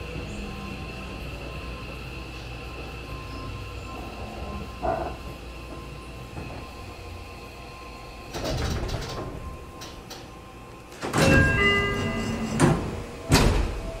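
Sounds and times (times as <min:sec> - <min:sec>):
train doors opening rush: 0:00.0 - 0:14.0.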